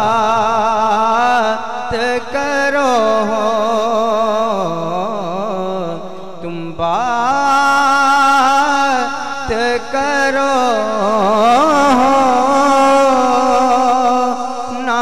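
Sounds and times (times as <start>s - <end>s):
man singing through a pa system: 0.0s - 15.0s.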